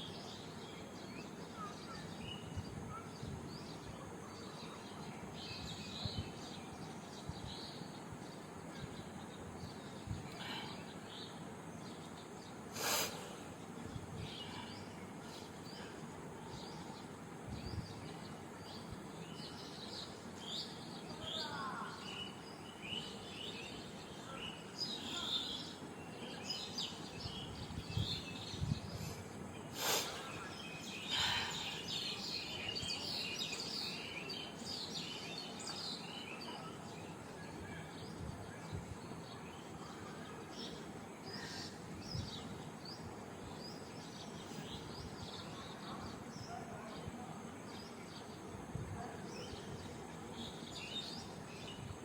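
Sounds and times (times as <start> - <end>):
small birds chirping: 0.0 - 52.0
steady background hiss: 0.0 - 52.0.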